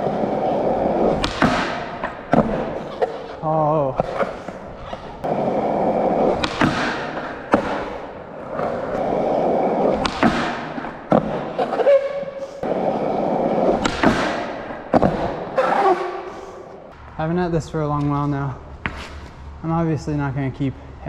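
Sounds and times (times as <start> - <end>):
skateboard wheels rolling on concrete: 0.0 - 17.2.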